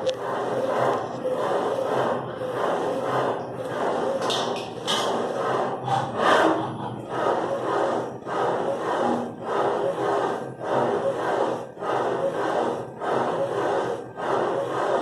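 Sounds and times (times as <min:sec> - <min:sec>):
cnc router cutting: 0:00.0 - 0:15.0.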